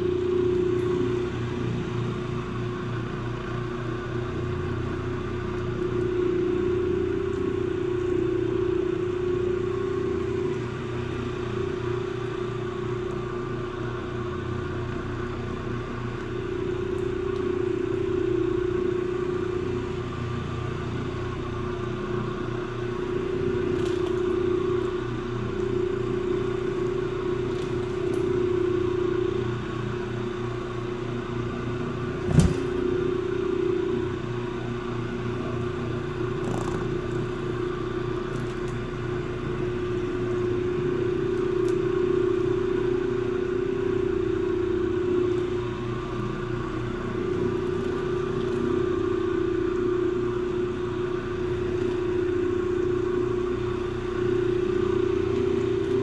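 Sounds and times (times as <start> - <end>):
floor machine motor hum: 0.0 - 56.0.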